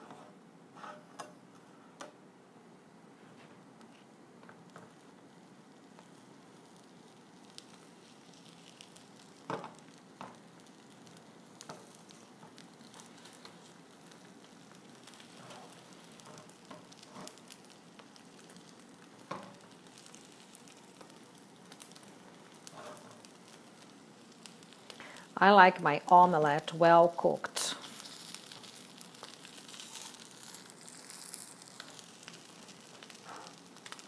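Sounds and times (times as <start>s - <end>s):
omelet sizzling in frying pan: 3.9s - 34.0s.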